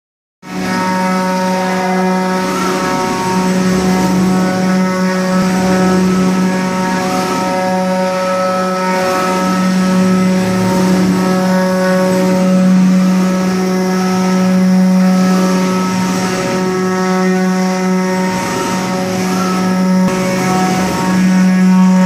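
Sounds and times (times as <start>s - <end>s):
milling machine droning hum: 0.5s - 22.0s.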